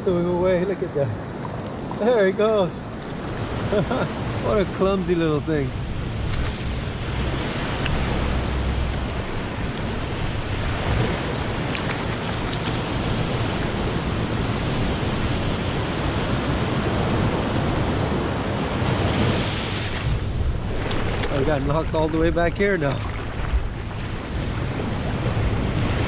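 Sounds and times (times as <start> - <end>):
waves breaking over rocks: 0.4 - 26.0.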